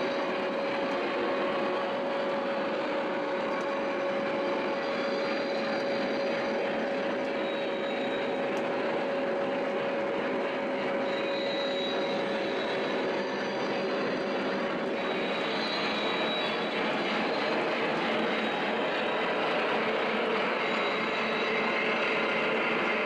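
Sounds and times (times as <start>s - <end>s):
constant hum: 0.0s - 23.0s.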